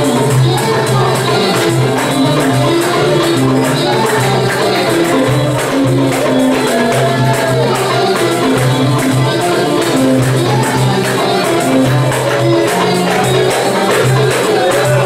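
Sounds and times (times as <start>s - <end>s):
banjo: 0.0s - 15.0s
hand percussion with jingles: 0.0s - 15.0s
violin: 0.0s - 15.0s.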